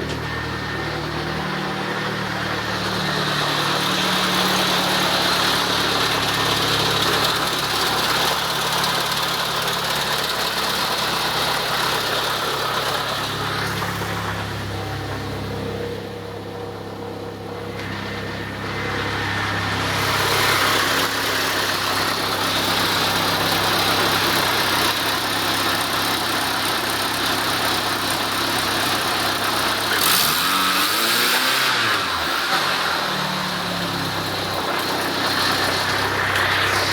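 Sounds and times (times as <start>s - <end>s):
car engine buzzing and revving: 0.0s - 36.9s.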